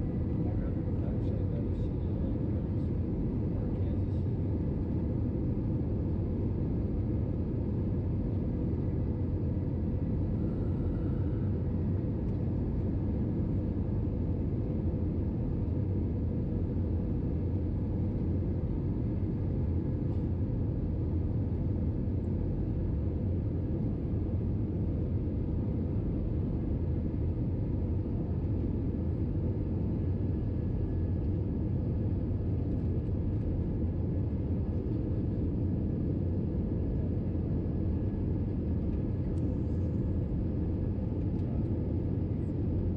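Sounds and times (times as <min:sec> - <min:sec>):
airplane cabin engine rumble: 0:00.0 - 0:42.9
faint steady hum: 0:00.0 - 0:42.9.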